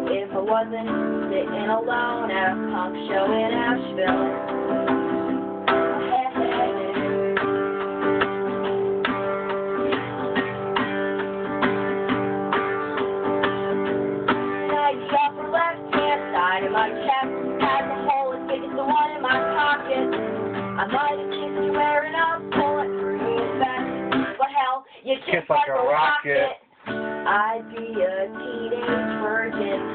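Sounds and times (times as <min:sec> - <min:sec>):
acoustic guitar strumming: 0:00.0 - 0:29.9.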